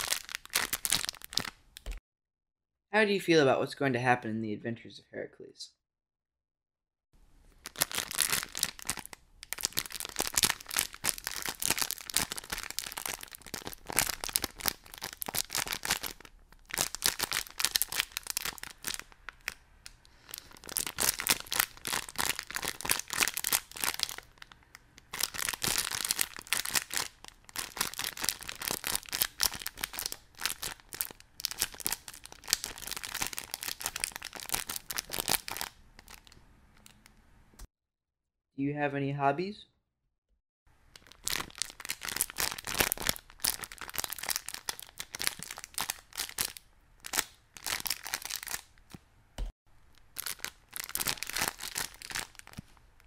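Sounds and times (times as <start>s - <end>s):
dense crackling crinkling noise: 0.0s - 2.0s, 7.5s - 37.6s, 40.7s - 49.0s, 49.8s - 53.0s.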